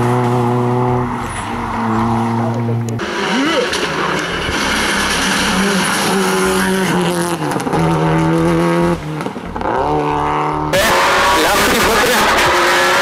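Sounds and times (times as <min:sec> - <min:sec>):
rally car engine revving hard: 0:00.0 - 0:13.0.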